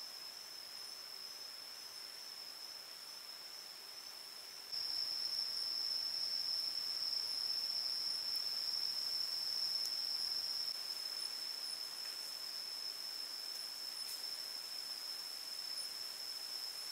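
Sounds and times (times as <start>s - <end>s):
high-pitched insect trill: 0.0s - 16.9s.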